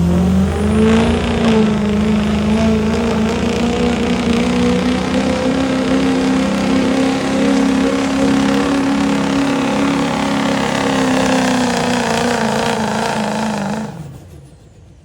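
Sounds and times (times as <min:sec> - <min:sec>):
engine running at high revs: 0:00.0 - 0:15.0.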